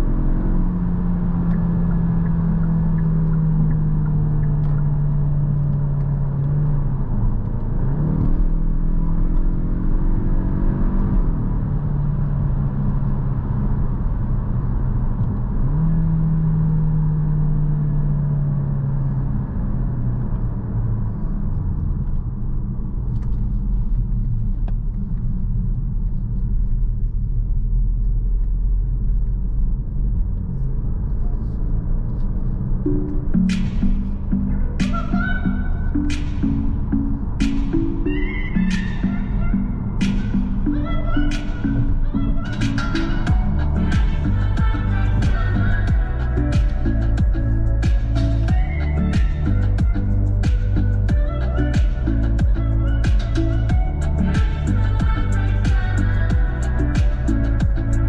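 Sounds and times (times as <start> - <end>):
car engine accelerating through gears: 0.0 - 58.0
road noise: 0.0 - 58.0.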